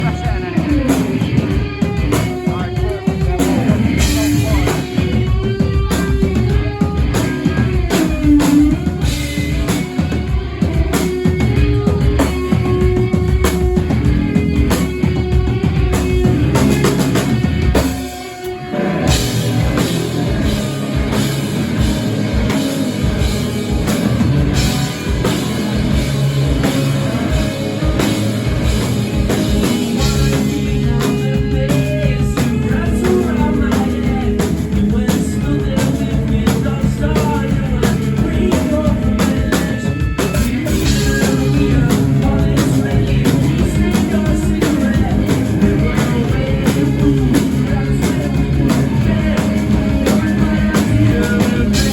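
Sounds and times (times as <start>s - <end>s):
rock music on drums and guitar: 0.0s - 51.9s.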